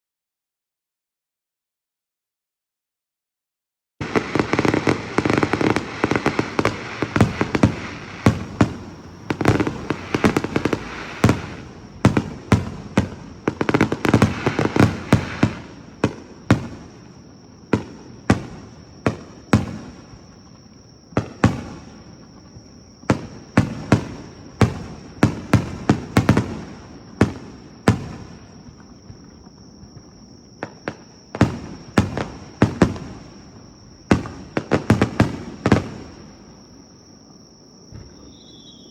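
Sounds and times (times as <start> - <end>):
fireworks bursting and crackling: 4.0 - 36.9, 37.9 - 38.9.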